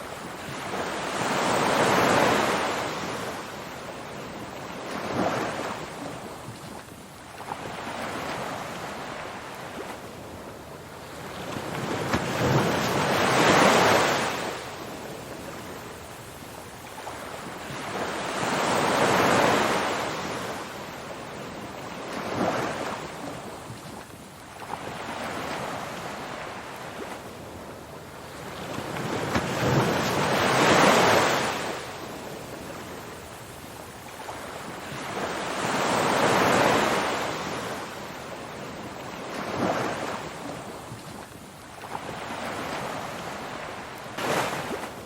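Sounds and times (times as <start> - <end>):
waves breaking: 0.0 - 45.0.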